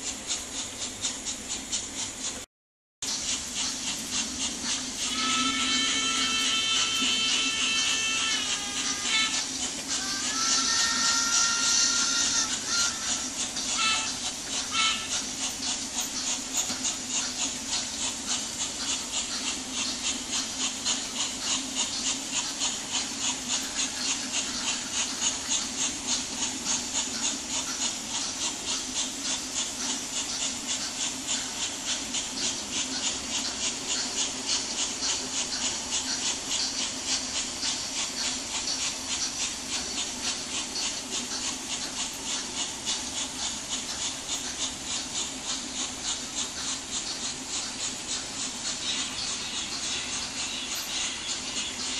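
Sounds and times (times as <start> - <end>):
steady low hum: 0.0 - 51.9
model wagons rattling on track: 3.1 - 51.9.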